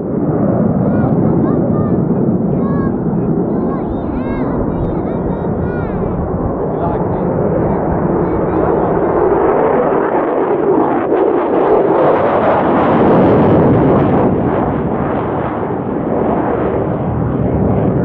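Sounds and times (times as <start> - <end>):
fighter jet roaring: 0.0 - 17.6.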